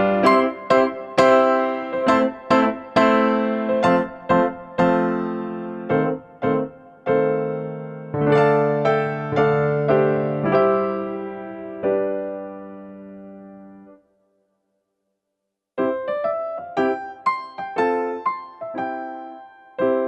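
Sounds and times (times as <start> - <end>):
electric piano chords: 0.0 - 14.0, 15.8 - 20.0.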